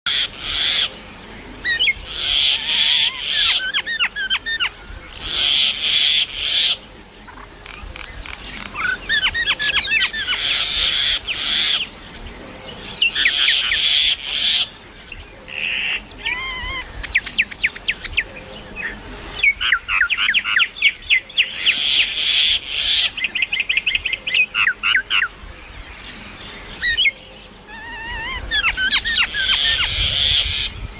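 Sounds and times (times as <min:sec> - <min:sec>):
mynas calling: 0:00.1 - 0:30.9.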